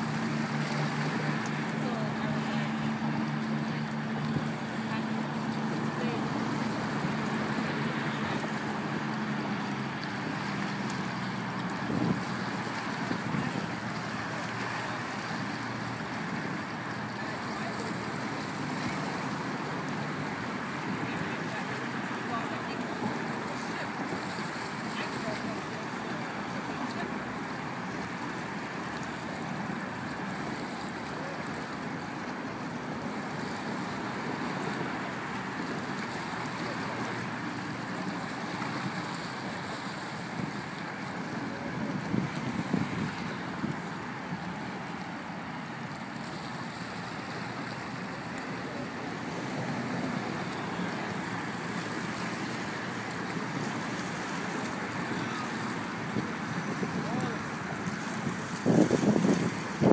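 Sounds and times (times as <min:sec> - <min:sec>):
choppy water: 0:00.0 - 0:59.9
small waves lapping: 0:00.0 - 0:59.9.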